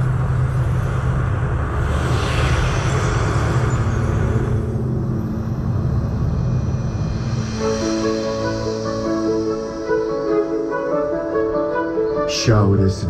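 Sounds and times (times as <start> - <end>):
deep rumble: 0.0 - 12.1
rushing wind: 0.0 - 12.3.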